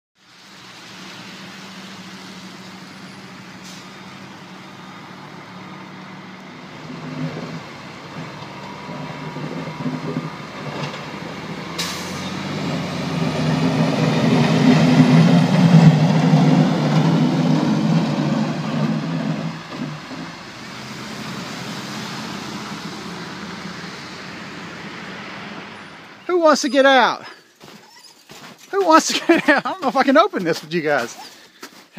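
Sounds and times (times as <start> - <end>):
diesel truck driving past: 0.3 - 27.3.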